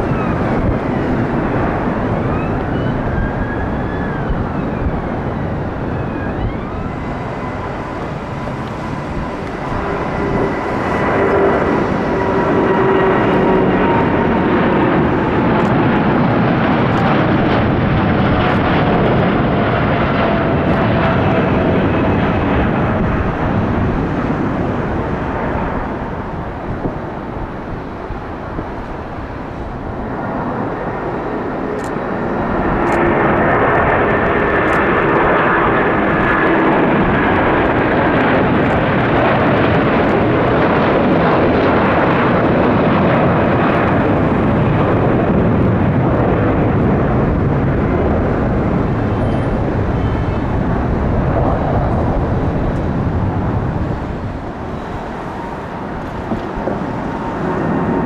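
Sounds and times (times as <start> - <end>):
jet airliner flying past: 0.0 - 58.0.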